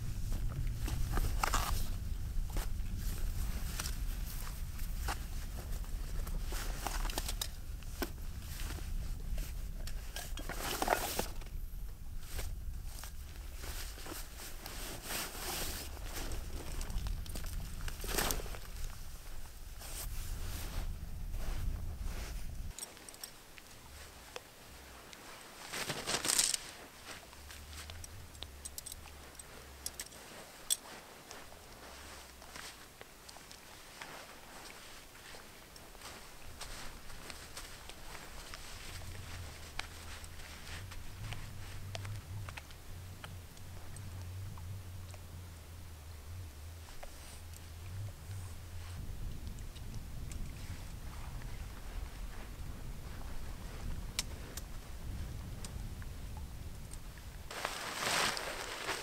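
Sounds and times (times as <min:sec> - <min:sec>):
rustling of rucksack fabric: 0:00.0 - 0:59.0.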